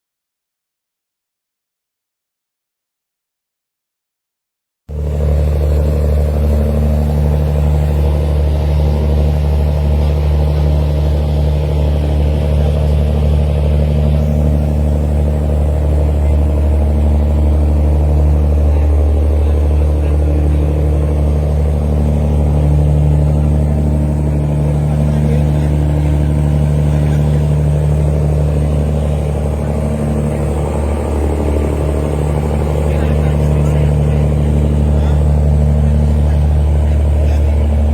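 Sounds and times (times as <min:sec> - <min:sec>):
boat diesel engines droning: 0:04.9 - 0:37.9.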